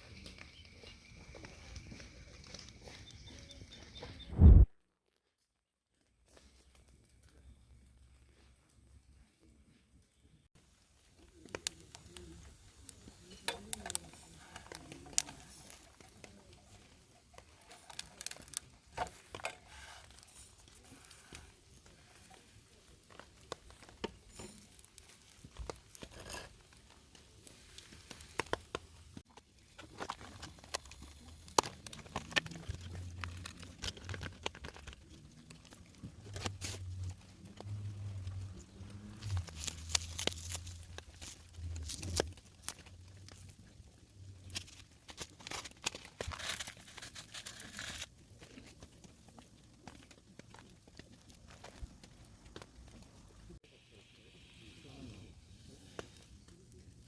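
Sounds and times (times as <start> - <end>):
rustling and crinkling: 0.0 - 53.6.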